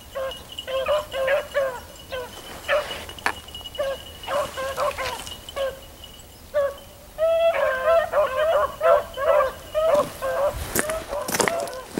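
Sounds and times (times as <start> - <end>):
hounds baying: 0.0 - 11.9.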